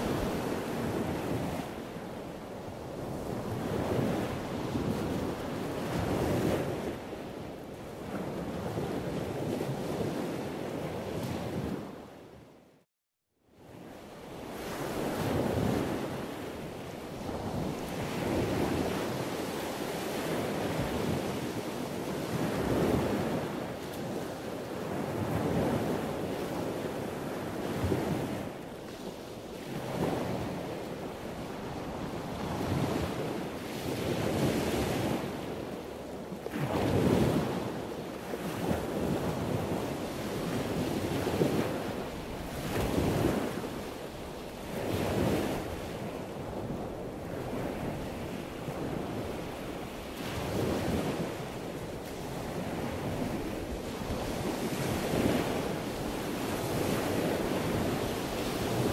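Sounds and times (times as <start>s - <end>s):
wind gusting on microphone: 0.0s - 12.5s, 13.6s - 58.9s.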